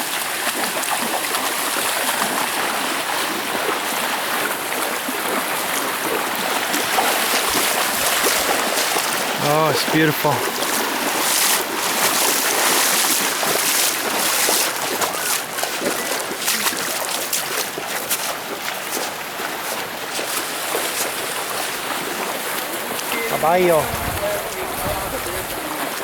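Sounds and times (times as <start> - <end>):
rushing river water: 0.0 - 26.0.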